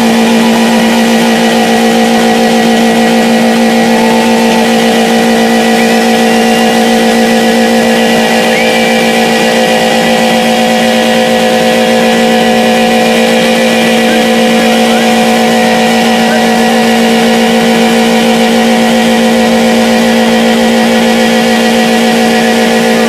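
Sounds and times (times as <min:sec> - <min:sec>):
car engine at full revs: 0:00.0 - 0:23.0.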